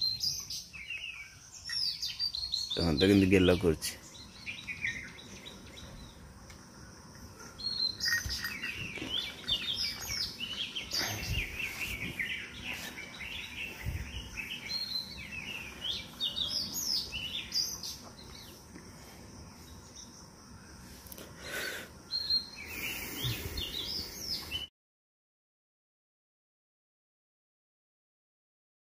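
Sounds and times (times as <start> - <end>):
small birds chirping: 0.0 - 24.7.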